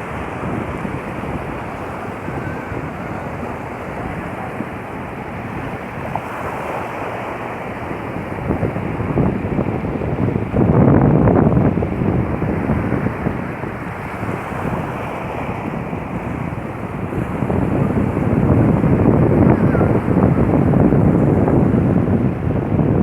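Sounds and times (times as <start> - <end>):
sea waves washing on shore: 0.0 - 23.0
wind rumbling on microphone: 0.0 - 23.0.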